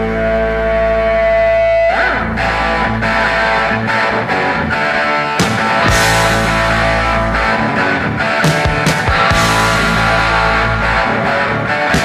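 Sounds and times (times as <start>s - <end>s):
distorted electric guitar note ringing: 0.0s - 12.0s
punk rock band playing: 0.0s - 12.0s.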